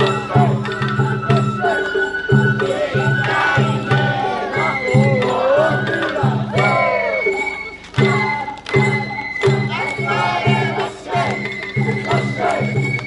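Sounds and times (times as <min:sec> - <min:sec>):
wavering voices: 0:00.0 - 0:12.9
drums steady rhythm: 0:00.0 - 0:13.0
high flute: 0:00.0 - 0:13.0.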